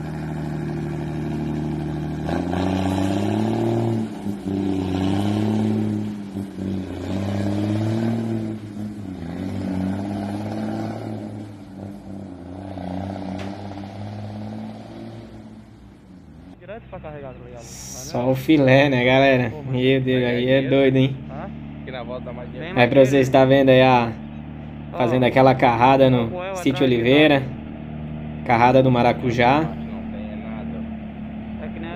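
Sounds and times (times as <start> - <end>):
truck engine accelerating through gears: 0.0 - 31.9.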